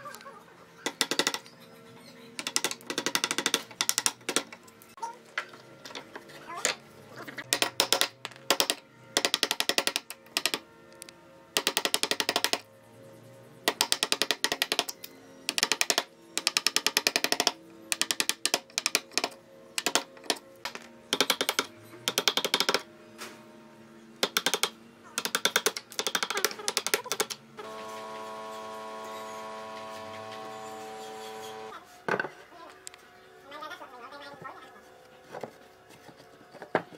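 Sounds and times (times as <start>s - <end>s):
faint music: 0.0s - 36.9s.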